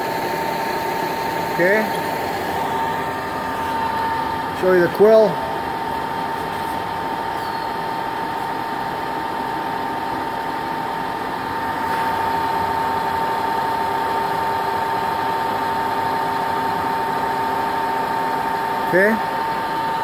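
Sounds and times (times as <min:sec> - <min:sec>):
milling machine whine: 0:00.0 - 0:20.0.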